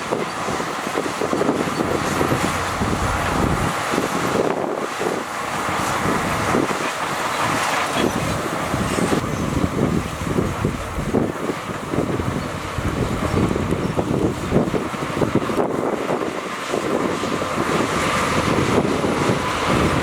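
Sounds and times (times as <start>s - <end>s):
heavy diesel machinery rumble: 0.0s - 20.0s.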